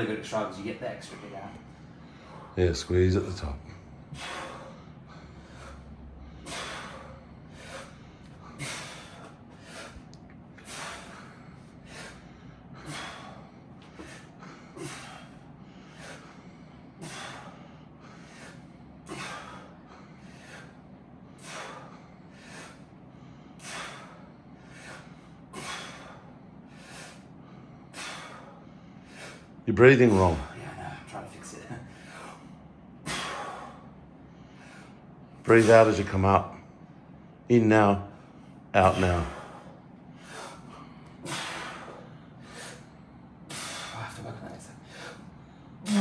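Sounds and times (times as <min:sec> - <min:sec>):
person breathing hard: 0:01.6 - 0:02.7, 0:03.8 - 0:31.1, 0:31.8 - 0:35.9, 0:38.2 - 0:44.2, 0:44.8 - 0:46.0.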